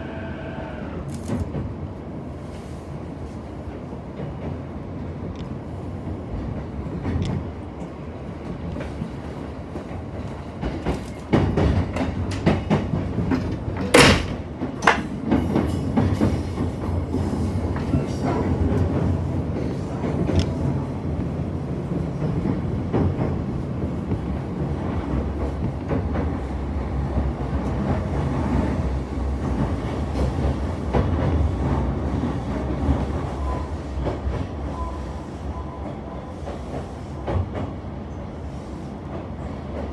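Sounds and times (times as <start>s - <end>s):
train wheels rumbling on rail: 0.0s - 39.9s
train clicks and knocks: 1.1s - 2.3s, 3.4s - 39.9s.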